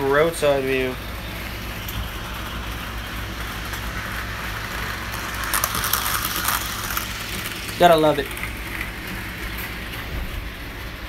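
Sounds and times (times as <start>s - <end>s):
model train running: 0.0s - 11.0s
rapid clicking and rattling: 0.0s - 11.0s.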